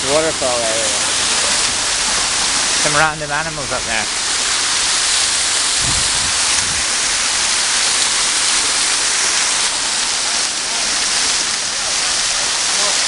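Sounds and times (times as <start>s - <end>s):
fountains squirting: 0.0s - 13.0s
waterfall rushing and splashing: 0.0s - 13.0s.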